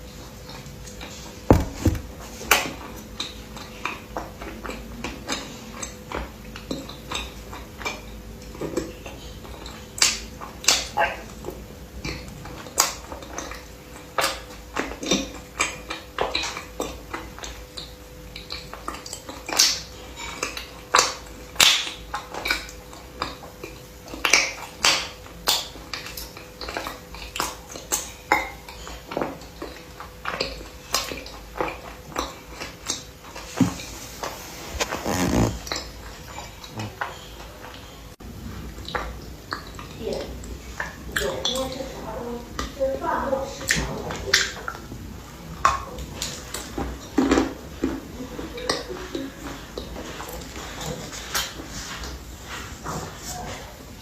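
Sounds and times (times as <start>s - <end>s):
crunching and chewing: 0.2s - 38.0s, 45.5s - 53.2s.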